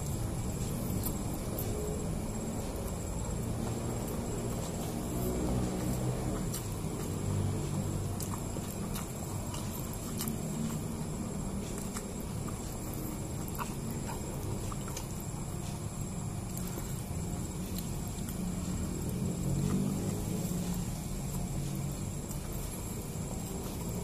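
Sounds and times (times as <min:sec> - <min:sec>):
chewing rice: 0:00.0 - 0:24.0.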